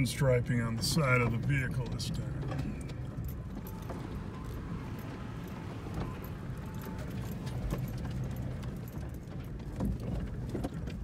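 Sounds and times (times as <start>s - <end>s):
truck engine and tyres rumbling: 0.0s - 11.0s
rocks rattling under truck: 0.8s - 11.0s.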